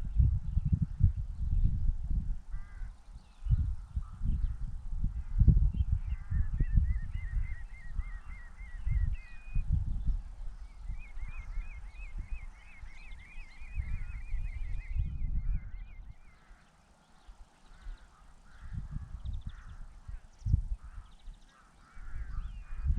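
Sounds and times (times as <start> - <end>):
wind rumble on microphone: 0.0 - 22.9
songbird chirping: 2.8 - 4.7, 5.4 - 22.9.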